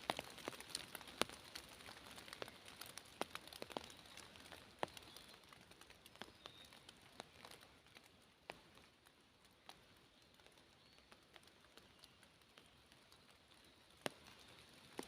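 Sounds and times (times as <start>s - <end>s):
faint rain hiss: 0.0s - 15.0s
raindrops ticking: 0.0s - 15.0s.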